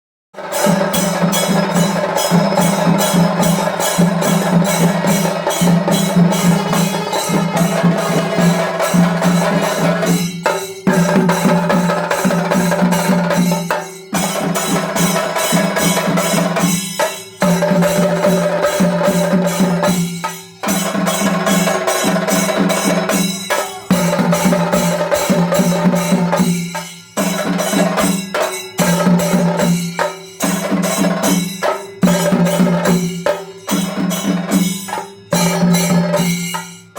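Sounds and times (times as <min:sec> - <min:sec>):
drums beaten in fast strokes: 0:00.4 - 0:36.9.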